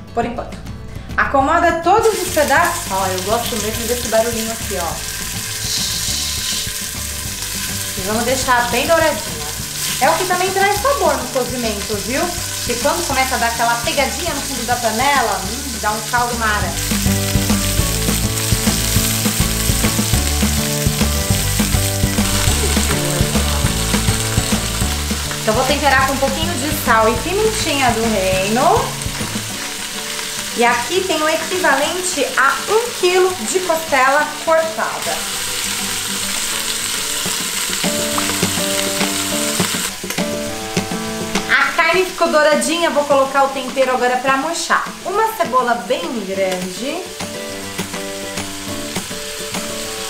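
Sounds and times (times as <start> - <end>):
background music with steady beat: 0.0 - 34.4, 35.2 - 50.0
meat sizzling in oil: 2.0 - 40.6, 41.6 - 50.0.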